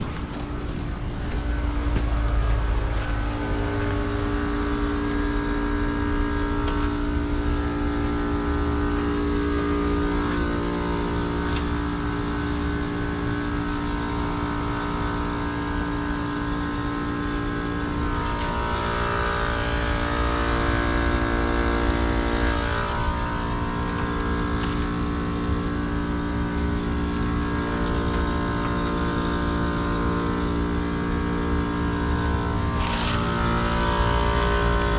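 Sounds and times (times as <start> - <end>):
heat pump hum: 0.0 - 34.9.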